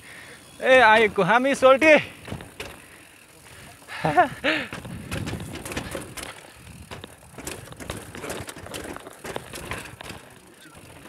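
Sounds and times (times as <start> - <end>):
mountain bike rattling down stone steps: 0.0 - 11.0
bike knocking over steps: 0.6 - 11.0.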